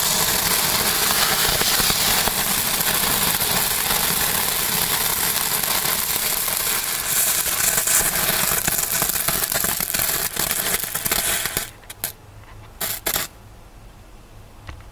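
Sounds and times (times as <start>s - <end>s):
firework fizzing and crackling: 0.0s - 12.2s, 12.8s - 13.4s.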